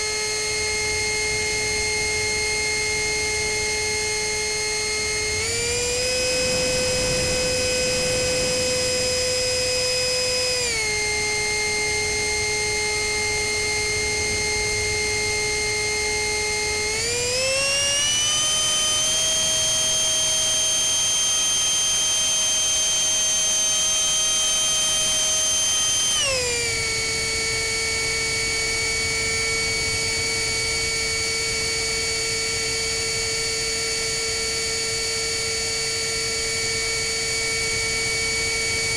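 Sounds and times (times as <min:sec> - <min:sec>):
electric ducted fan whine: 0:00.0 - 0:38.9.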